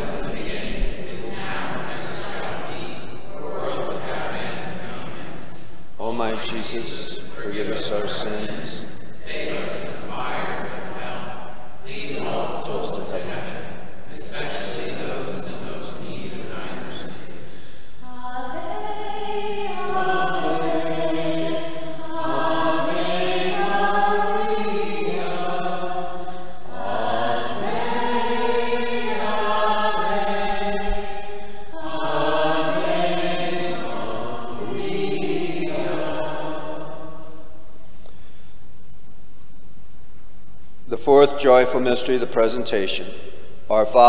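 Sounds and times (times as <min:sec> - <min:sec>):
sacred chant singing: 0:00.0 - 0:38.1, 0:40.8 - 0:44.0.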